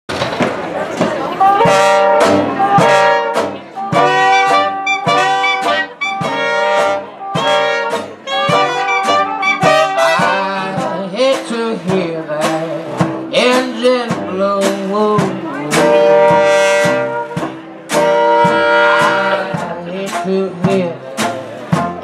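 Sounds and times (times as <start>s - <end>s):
jazz band playing: 0.1s - 22.0s.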